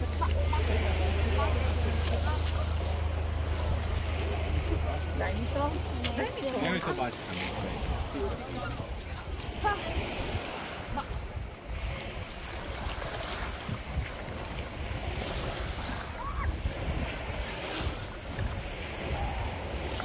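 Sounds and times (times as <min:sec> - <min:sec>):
waves washing against stone pier: 0:00.0 - 0:20.0
wind buffeting microphone: 0:00.0 - 0:20.0.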